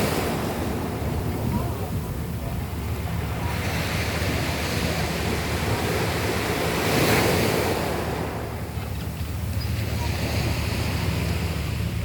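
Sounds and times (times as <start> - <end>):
waves washing over pebbles: 0.0 - 12.0
wind rumbling on microphone: 0.0 - 12.0.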